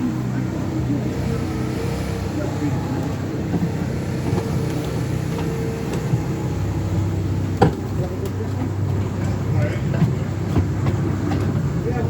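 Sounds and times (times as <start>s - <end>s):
miniature train engine drone: 0.0s - 12.0s.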